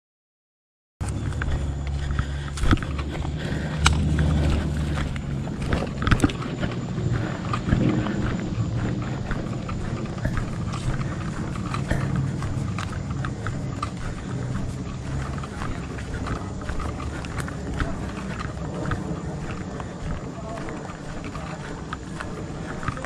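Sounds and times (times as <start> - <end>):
footsteps on grass: 1.0 - 23.0
gear knocking and rustling: 1.0 - 23.0
low rumble: 1.0 - 23.0.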